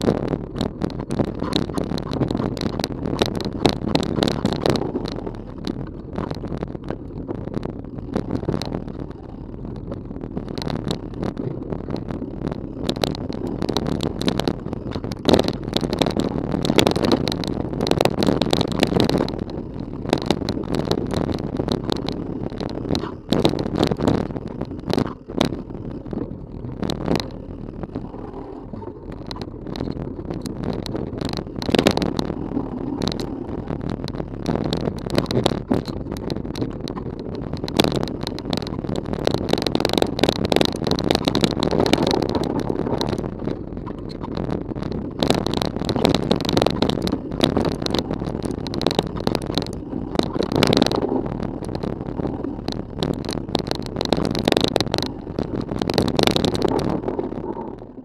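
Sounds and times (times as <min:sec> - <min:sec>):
bike knocking and rattling: 0:00.0 - 0:58.0
bike tyres rolling over dirt: 0:00.0 - 0:58.0.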